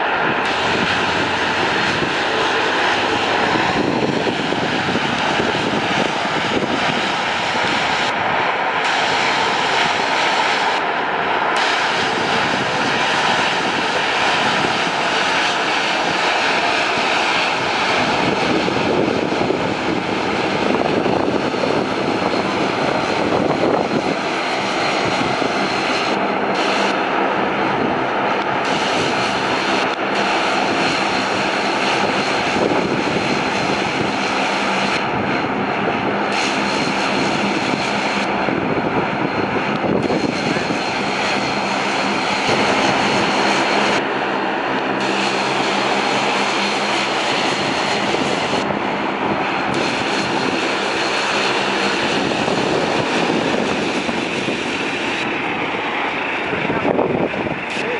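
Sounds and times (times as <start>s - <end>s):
turboprop propeller drone and whine: 0.0s - 57.9s.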